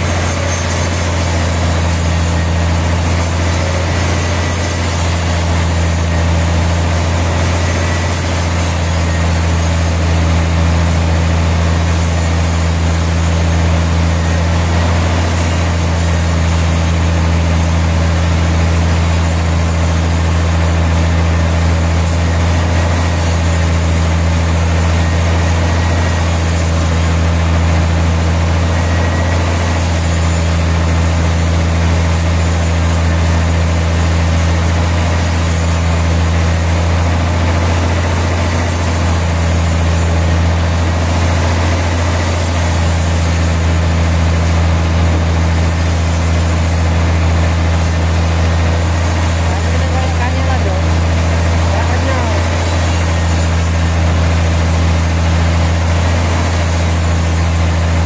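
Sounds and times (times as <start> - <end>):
sawmill machinery hum: 0.0 - 58.0.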